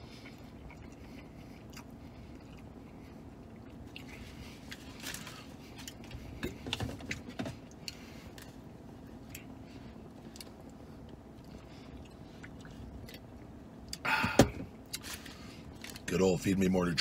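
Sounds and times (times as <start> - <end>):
man chewing: 0.0 - 14.1.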